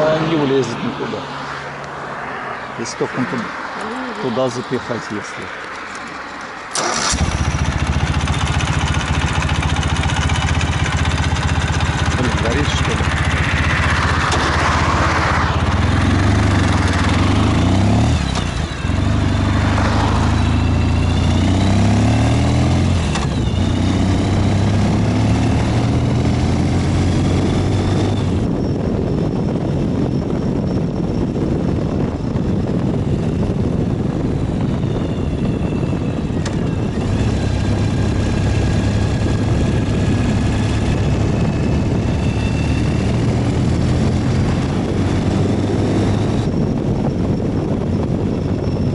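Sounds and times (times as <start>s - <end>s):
road noise: 0.0s - 48.9s
motorcycle engine running: 6.8s - 14.8s, 15.5s - 48.9s.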